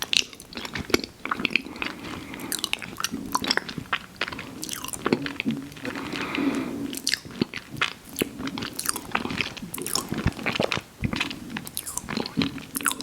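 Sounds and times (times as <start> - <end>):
chewing ice cream sandwich: 0.0 - 13.0.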